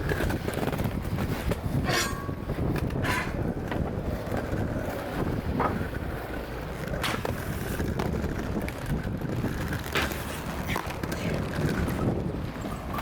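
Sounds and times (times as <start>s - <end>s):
skate wheels rolling on pavement: 0.0s - 13.0s
wind buffeting microphone: 0.0s - 13.0s.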